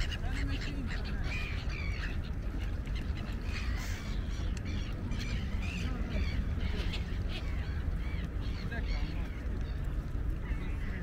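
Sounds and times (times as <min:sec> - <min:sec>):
gulls calling: 0:00.0 - 0:11.0
steady low rumble: 0:00.0 - 0:11.0.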